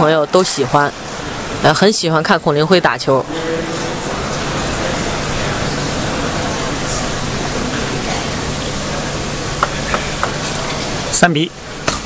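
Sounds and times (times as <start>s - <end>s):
arena crowd hubbub: 0.0s - 12.0s.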